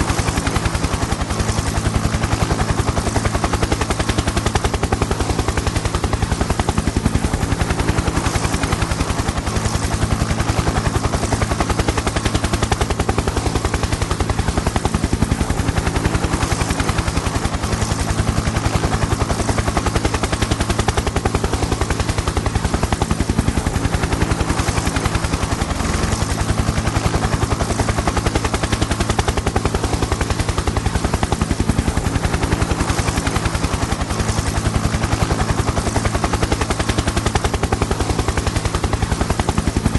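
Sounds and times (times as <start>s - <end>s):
helicopter engine hum: 0.0s - 39.9s
helicopter rotor blades chopping: 0.0s - 39.9s.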